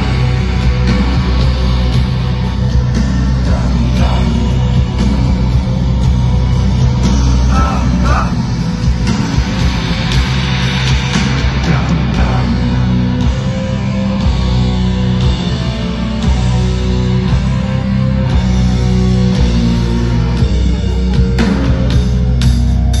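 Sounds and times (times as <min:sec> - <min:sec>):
distorted electric guitars: 0:00.0 - 0:23.0
heavy metal band playing live: 0:00.0 - 0:23.0.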